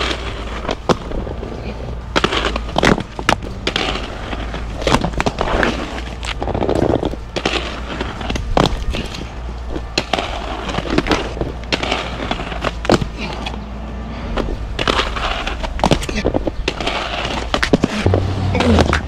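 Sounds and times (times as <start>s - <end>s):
inline skates rolling on concrete: 0.0s - 19.0s
skates clacking on pavement: 0.0s - 19.0s.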